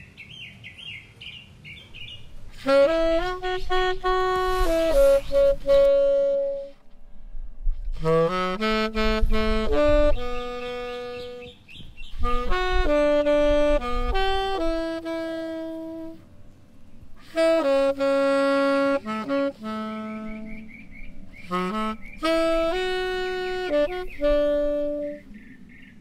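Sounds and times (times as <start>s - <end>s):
solo tenor saxophone: 2.3s - 7.0s, 7.8s - 25.4s.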